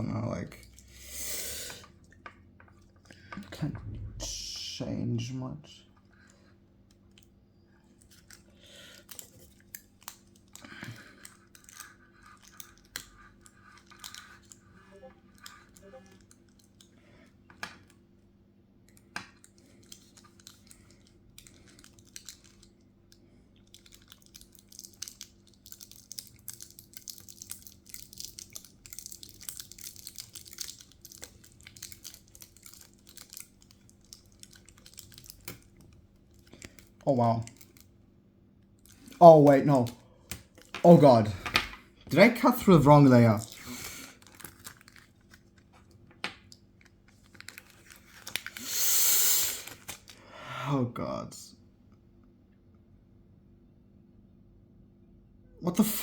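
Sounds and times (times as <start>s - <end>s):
low steady hum: 0.0s - 48.6s.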